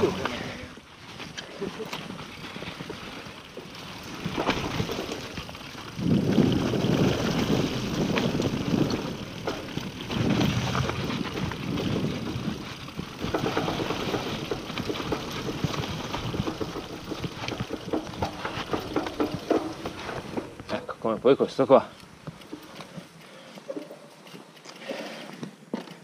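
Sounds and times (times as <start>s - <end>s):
bike tyres on dirt and stones: 0.0s - 26.0s
bike knocks and rattles: 1.1s - 24.4s.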